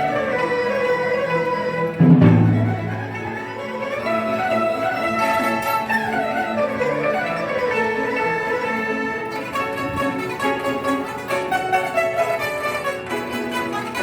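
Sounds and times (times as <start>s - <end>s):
bowed strings sliding melody: 0.0s - 14.0s
plucked string notes: 0.0s - 14.0s
traditional orchestra playing: 0.0s - 14.0s.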